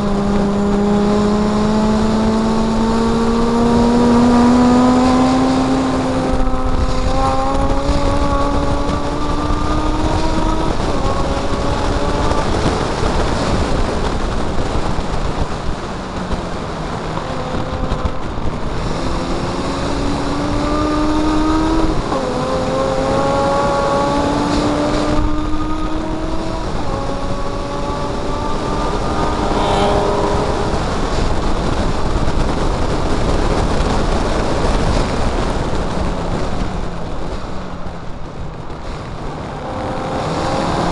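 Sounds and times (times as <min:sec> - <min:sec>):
race car engine accelerating: 0:00.0 - 0:40.9
wind and road noise: 0:00.0 - 0:40.9.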